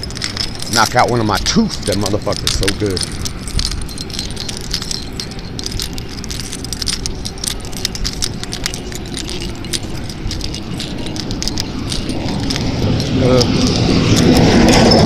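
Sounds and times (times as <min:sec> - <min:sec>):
keys jangling: 0:00.0 - 0:15.0
steady low rumble: 0:00.0 - 0:15.0.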